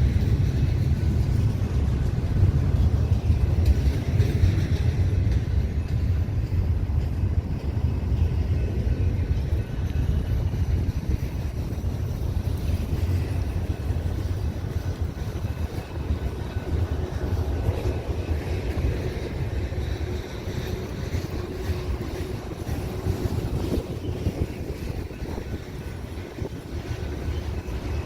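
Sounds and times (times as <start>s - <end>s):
freight train rumble: 0.0s - 28.0s.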